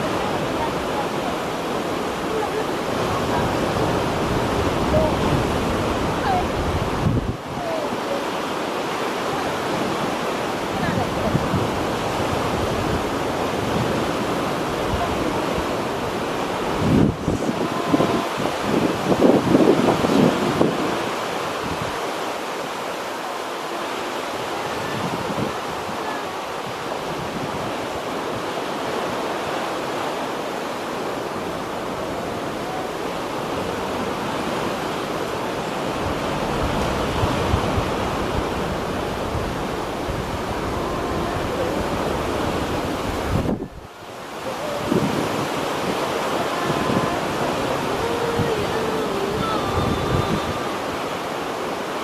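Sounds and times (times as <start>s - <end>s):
choppy sea washing: 0.0s - 52.0s
wind gusting on microphone: 0.0s - 52.0s.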